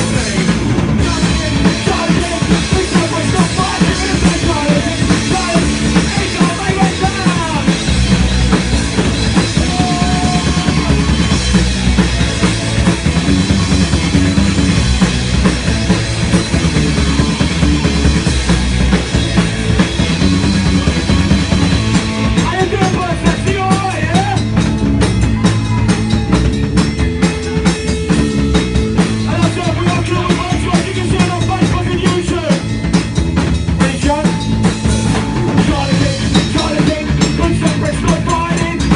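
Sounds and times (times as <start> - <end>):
drum kit: 0.0 - 38.9
live rock band playing: 0.0 - 38.9.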